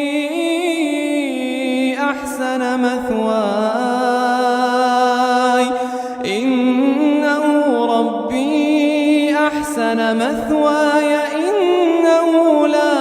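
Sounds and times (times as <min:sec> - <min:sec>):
person chanting melodic recitation: 0:00.0 - 0:13.0.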